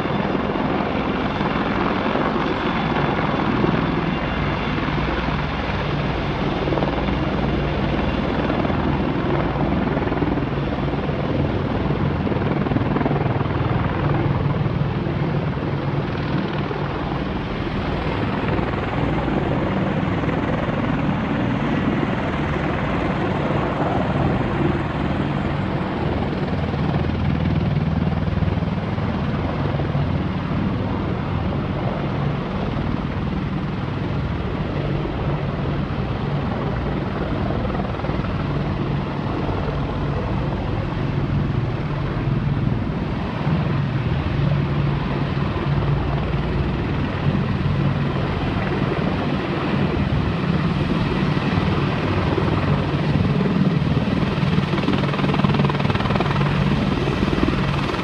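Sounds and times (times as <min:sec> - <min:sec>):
helicopter rotors: 0:00.0 - 0:58.0.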